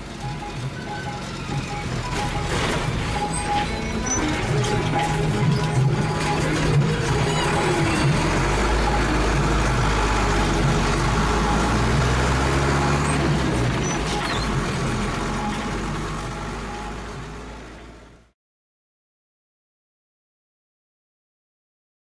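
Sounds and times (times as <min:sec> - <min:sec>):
bus engine drone: 0:00.0 - 0:18.4.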